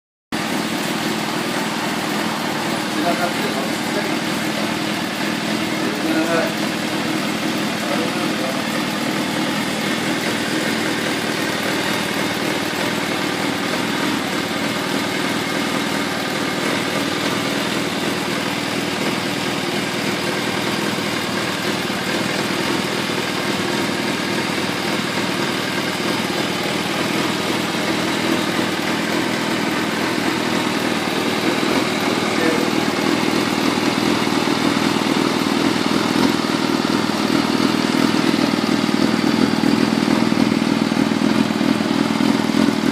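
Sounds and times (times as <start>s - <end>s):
motorcycle engine idling: 0.4s - 42.9s.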